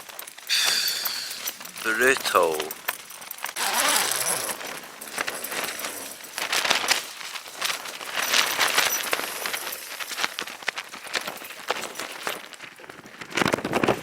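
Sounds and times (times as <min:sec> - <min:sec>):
tent fabric flapping in wind: 0:00.0 - 0:00.5, 0:01.4 - 0:14.0.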